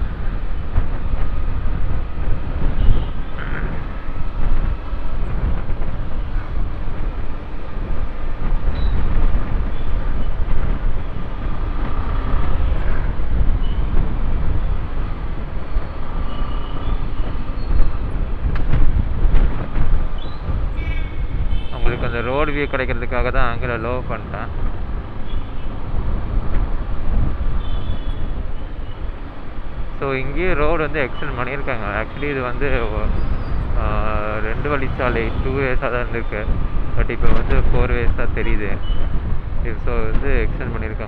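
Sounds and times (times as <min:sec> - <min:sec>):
wind buffeting on microphone: 0:00.0 - 0:41.0.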